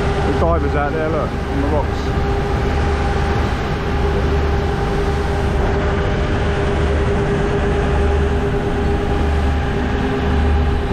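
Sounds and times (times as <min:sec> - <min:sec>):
boat engine rumbling: 0:00.0 - 0:10.9
water rushing from wake: 0:00.0 - 0:10.9.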